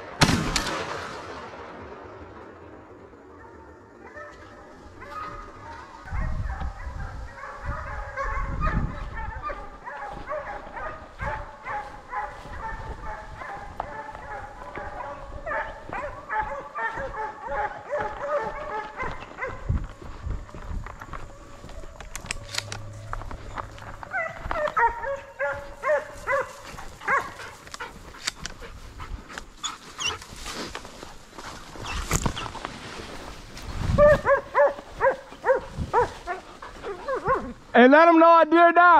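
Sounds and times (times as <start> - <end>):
hounds baying: 3.4 - 37.9.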